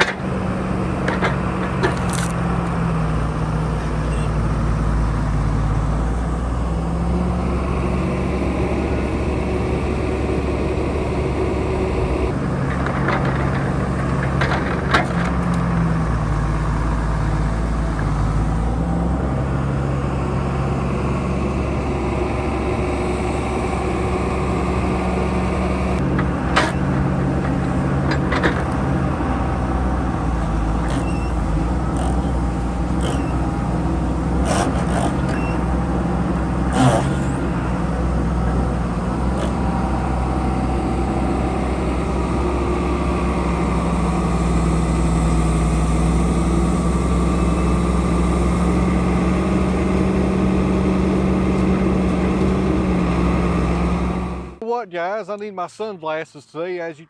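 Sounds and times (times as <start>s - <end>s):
log loader diesel engine running: 0.0s - 57.0s.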